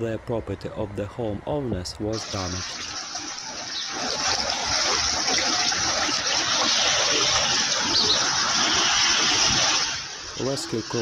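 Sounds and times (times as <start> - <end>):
rushing flood water: 2.2 - 11.0.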